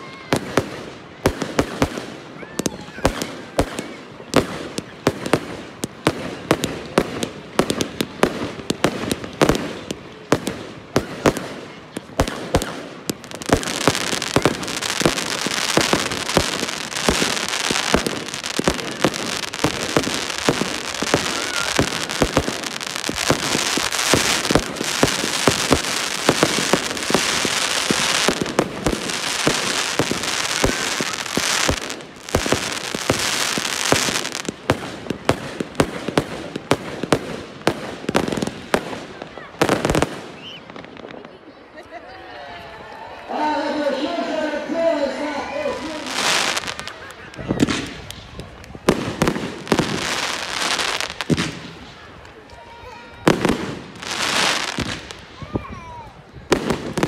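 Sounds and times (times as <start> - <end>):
fireworks bangs: 0.0 - 41.5, 43.6 - 57.0
fireworks crackle: 0.0 - 41.7, 45.5 - 57.0.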